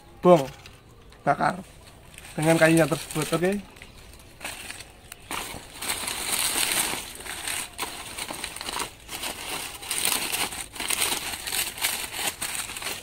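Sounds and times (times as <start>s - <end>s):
dry leaves rustling and crackling: 0.2s - 13.0s.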